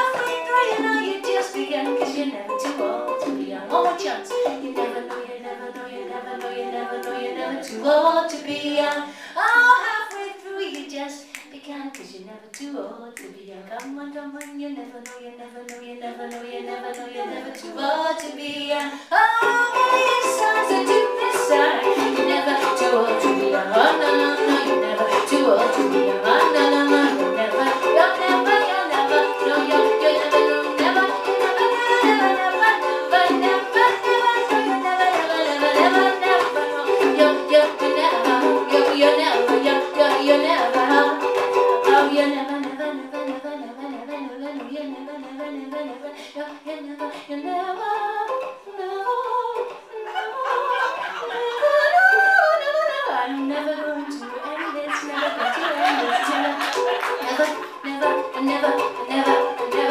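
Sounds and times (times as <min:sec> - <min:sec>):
ukulele strumming: 0:00.0 - 0:12.2, 0:13.2 - 0:59.9.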